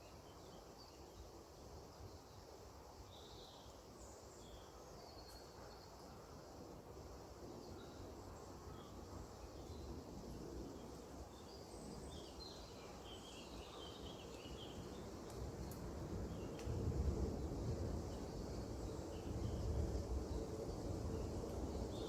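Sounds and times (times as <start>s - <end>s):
insects humming: 0.0s - 22.0s.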